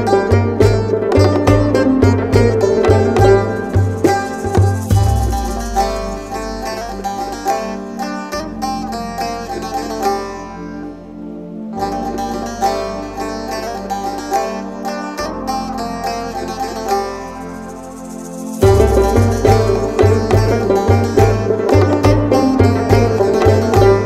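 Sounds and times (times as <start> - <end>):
plucked string instrument: 0.0 - 24.0.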